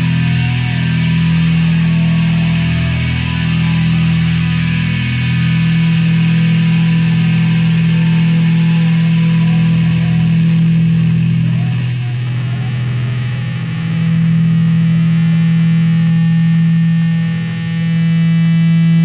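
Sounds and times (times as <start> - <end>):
distorted electric guitar drone: 0.0 - 19.0.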